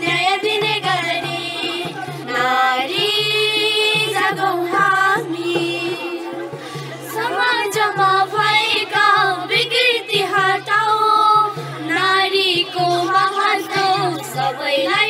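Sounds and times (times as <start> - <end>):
girls singing into microphones: 0.0 - 15.0.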